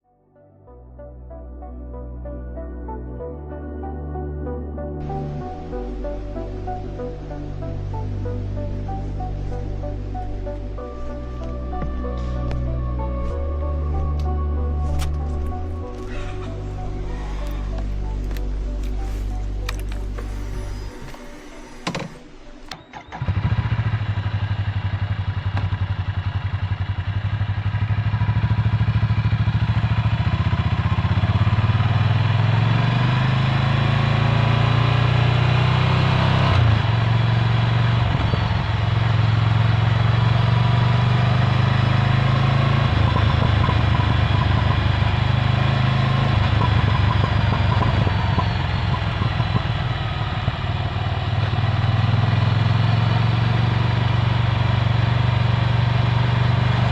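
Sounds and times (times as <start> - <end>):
motorcycle engine exhaust note: 5.0 - 56.9.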